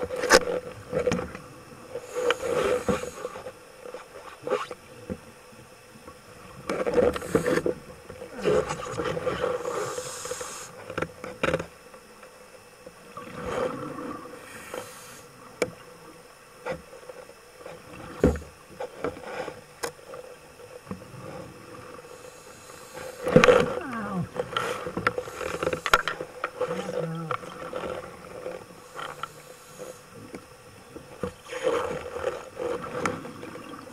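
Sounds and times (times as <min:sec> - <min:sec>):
low underwater hum: 0:00.0 - 0:33.9.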